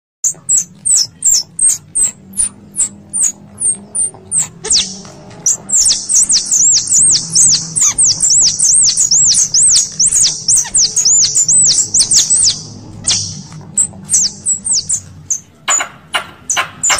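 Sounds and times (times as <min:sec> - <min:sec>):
squirrel calls: 0:00.2 - 0:16.9.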